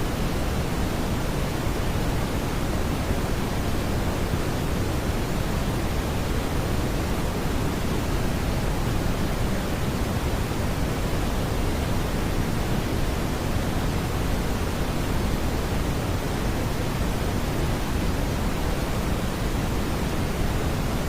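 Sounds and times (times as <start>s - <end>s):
brown noise rumble: 0.0s - 21.0s.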